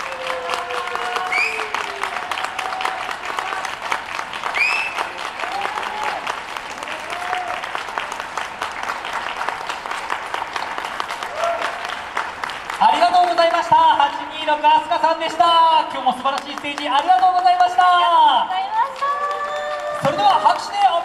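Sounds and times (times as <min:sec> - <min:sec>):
audience clapping: 0:00.0 - 0:21.0.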